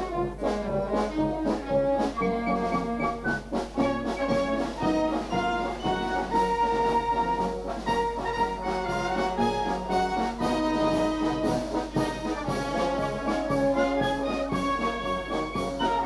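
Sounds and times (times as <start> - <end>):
wind band playing: 0.0 - 16.0.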